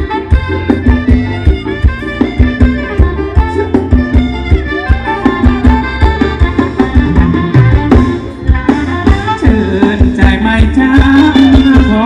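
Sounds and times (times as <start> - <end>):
dance band playing instrumental: 0.0 - 12.0
fast drum beat: 0.0 - 12.0
heavy bass: 0.0 - 12.0
sustained melody line: 0.0 - 12.0.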